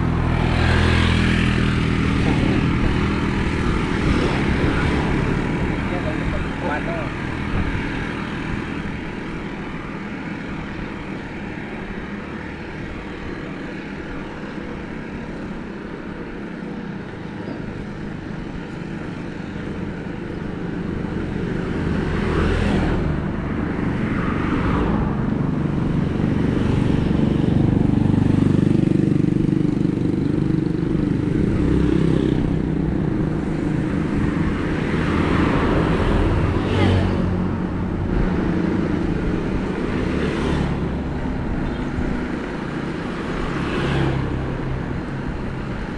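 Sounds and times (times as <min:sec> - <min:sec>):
wind: 0:00.0 - 0:45.9.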